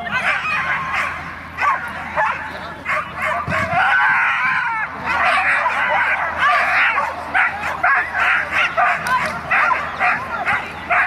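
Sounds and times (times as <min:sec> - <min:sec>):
dog barking and yelping: 0:00.0 - 0:04.3, 0:05.0 - 0:11.0.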